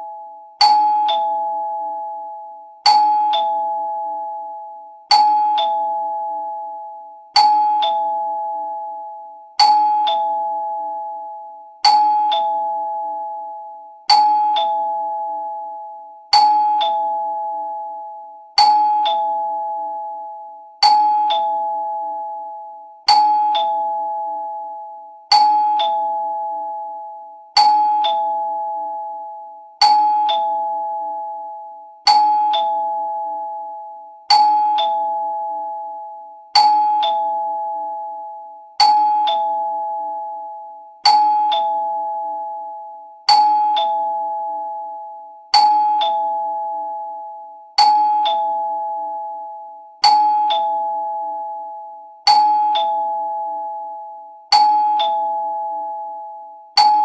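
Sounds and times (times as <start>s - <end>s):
two-tone doorbell chime: 0.0s - 57.0s.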